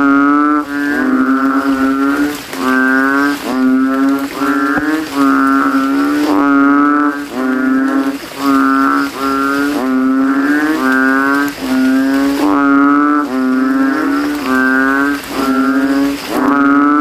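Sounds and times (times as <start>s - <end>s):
frogs bellowing in chorus: 0.0s - 17.0s.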